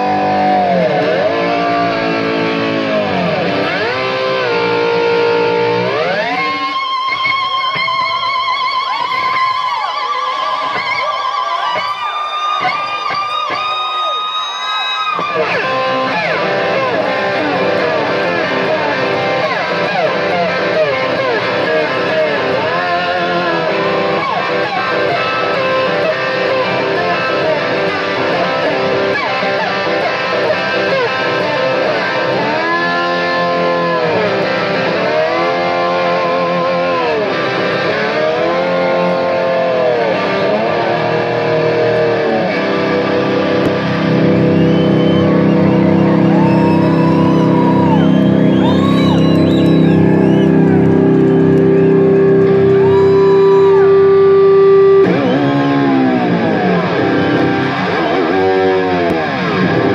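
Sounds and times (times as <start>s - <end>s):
live rock band playing: 0.0s - 9.7s, 15.2s - 59.9s
swooping slide guitar glides: 0.0s - 9.7s, 15.1s - 59.9s
electric guitar: 0.0s - 59.9s.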